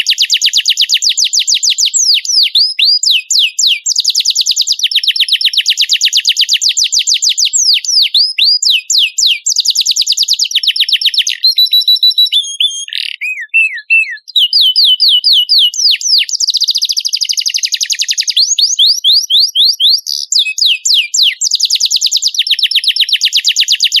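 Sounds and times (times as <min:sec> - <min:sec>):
canary singing: 0:00.0 - 0:24.0.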